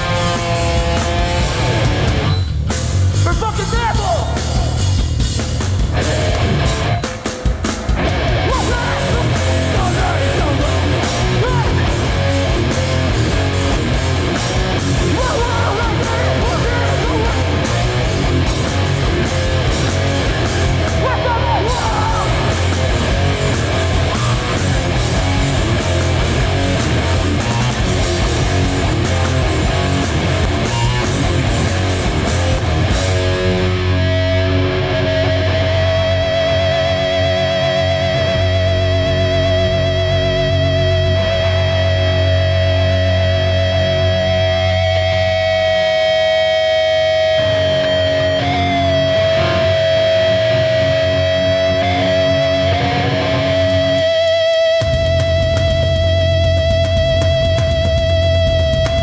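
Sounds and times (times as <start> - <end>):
ringing guitar chords: 0.0 - 3.1, 4.4 - 59.0
hardcore band playing live: 0.0 - 59.0.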